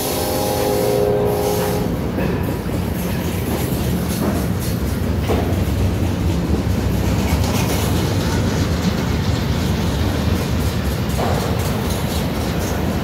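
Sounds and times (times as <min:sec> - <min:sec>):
train wheels rumbling on rails: 0:00.0 - 0:13.0
wheels clacking over rail joints: 0:02.0 - 0:13.0.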